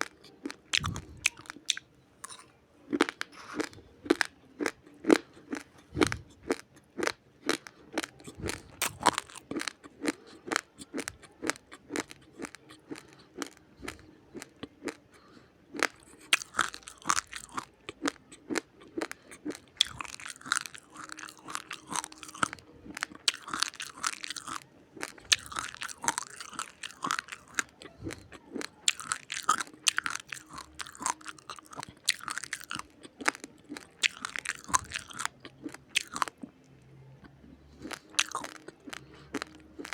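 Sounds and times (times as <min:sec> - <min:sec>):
raw rice being chewed: 0:00.0 - 0:39.9.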